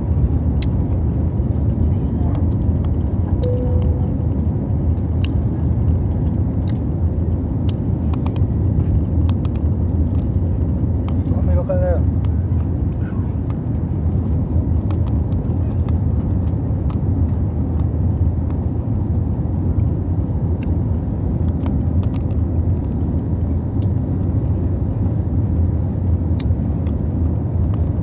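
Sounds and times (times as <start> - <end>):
airliner engines rumbling in cabin: 0.0 - 28.0.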